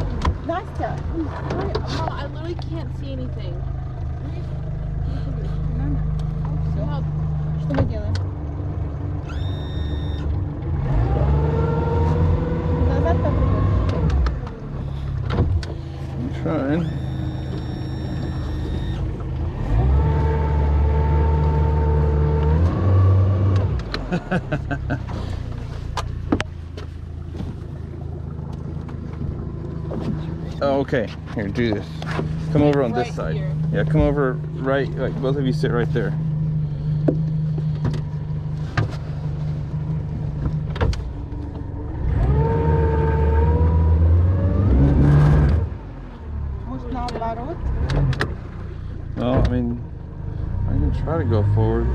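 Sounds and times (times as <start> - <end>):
boat motor running: 0.0 - 51.9.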